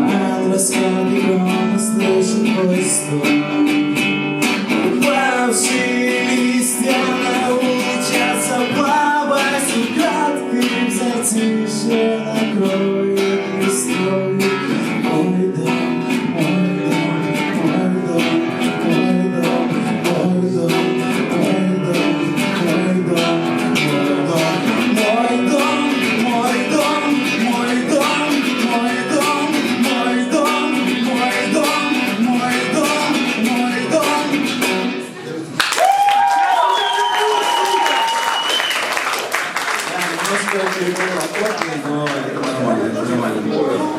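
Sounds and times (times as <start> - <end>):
electric guitar strummed and picked: 0.0 - 35.2.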